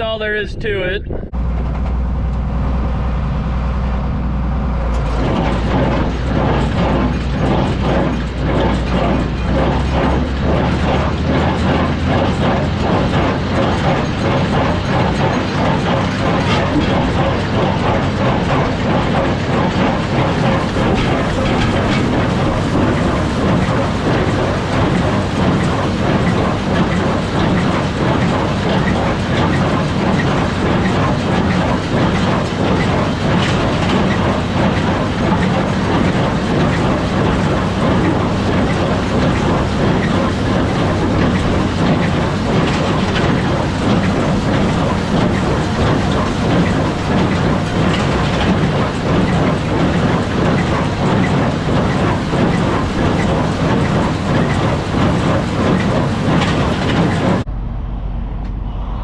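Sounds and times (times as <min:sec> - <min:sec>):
tractor engine drone: 0:00.0 - 0:59.0
baler mechanical clatter: 0:00.8 - 0:58.6.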